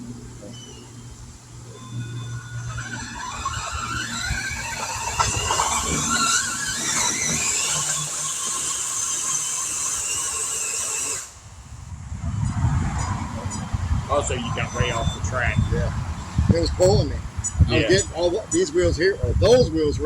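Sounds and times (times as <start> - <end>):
electric motor whining under load: 0.0 - 20.0.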